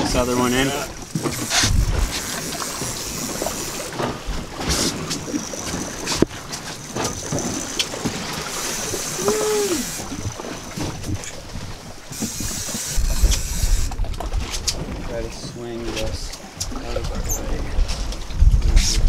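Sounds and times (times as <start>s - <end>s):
choppy sea water: 0.0s - 19.0s
wind: 0.0s - 19.0s.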